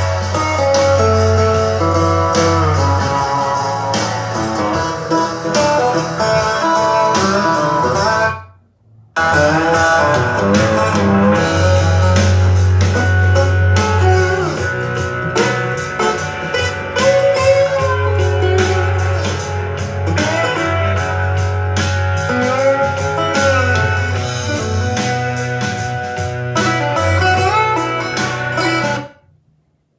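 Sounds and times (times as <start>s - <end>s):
guitar-led music with drums and bass: 0.0s - 8.4s, 9.2s - 29.2s.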